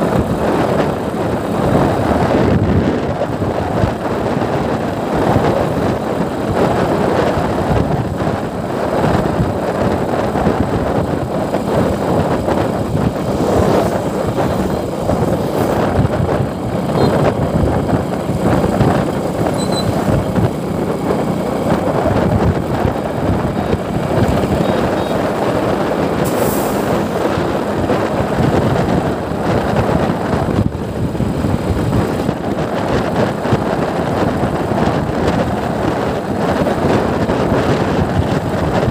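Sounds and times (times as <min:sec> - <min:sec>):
motorcycle road noise: 0:00.0 - 0:38.9
wind on microphone: 0:00.0 - 0:38.9.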